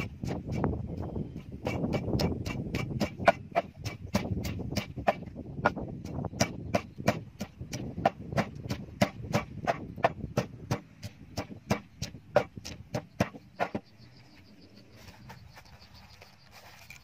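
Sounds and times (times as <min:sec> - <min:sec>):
wooden pestle pounding in mortar: 0:00.0 - 0:13.8.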